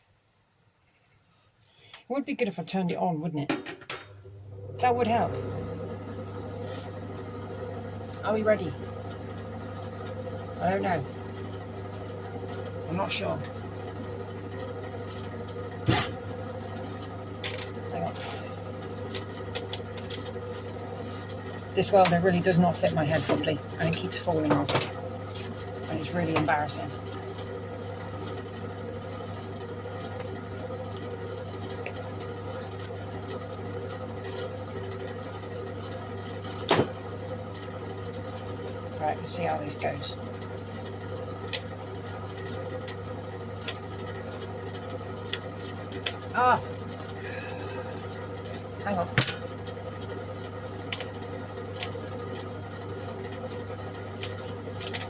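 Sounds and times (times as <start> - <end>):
welder electrical hum: 0.0 - 55.0.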